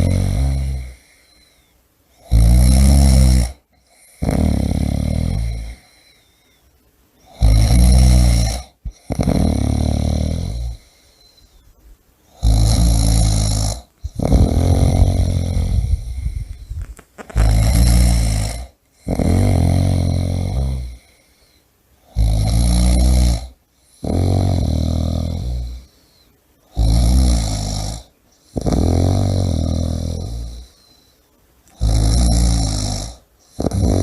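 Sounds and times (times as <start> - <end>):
person snoring loudly: 0.0 - 1.4, 2.2 - 6.1, 7.2 - 11.0, 12.3 - 21.2, 22.1 - 25.9, 26.7 - 30.7, 31.7 - 34.0.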